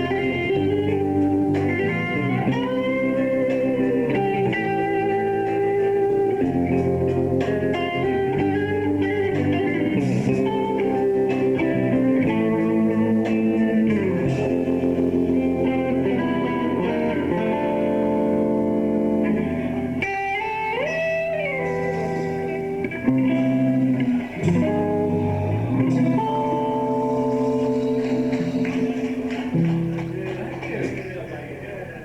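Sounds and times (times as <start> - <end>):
rock band playing: 0.0 - 31.3
guitar held notes: 0.0 - 32.0.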